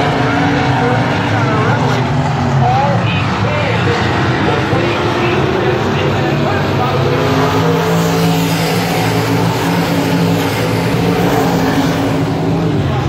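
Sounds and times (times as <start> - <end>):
stock car engines racing: 0.0 - 13.0.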